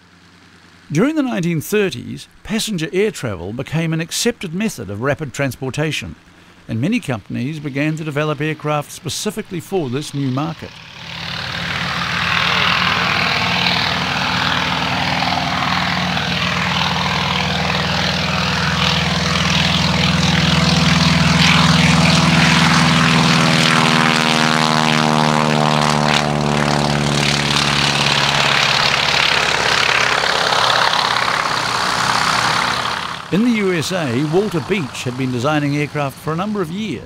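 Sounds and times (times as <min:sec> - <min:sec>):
propeller plane engine roaring: 0:00.0 - 0:37.0.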